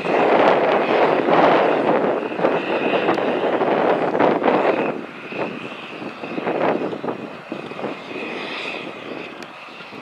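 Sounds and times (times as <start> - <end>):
high whine: 0.0 - 10.0.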